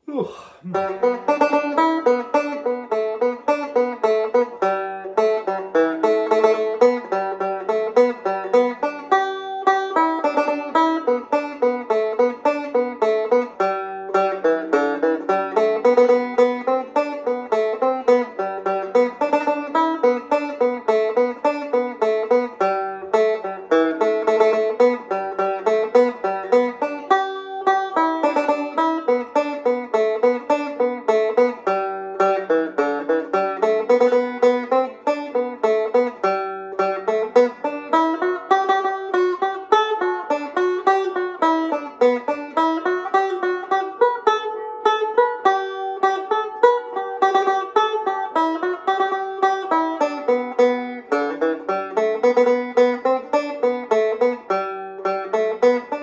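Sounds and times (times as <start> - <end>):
tenor banjo playing a reel: 0.7 - 56.0.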